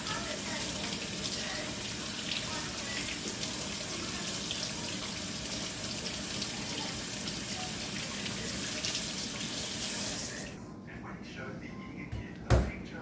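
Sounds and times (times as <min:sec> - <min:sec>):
water running from tap into sink: 0:00.0 - 0:10.6.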